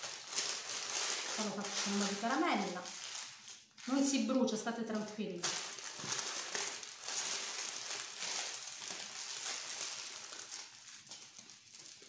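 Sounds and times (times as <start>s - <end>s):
baking paper crinkling: 0.0s - 12.0s.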